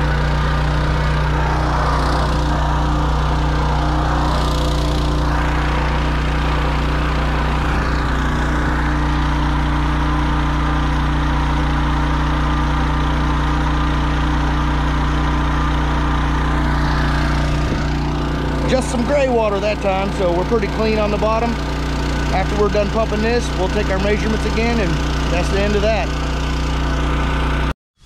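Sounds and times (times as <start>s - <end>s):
water gushing from hose: 0.0s - 27.6s
water pump engine running: 0.0s - 27.7s.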